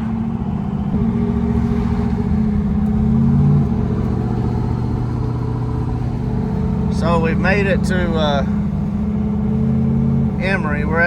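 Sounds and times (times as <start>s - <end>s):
car engine from inside cabin: 0.0s - 11.0s.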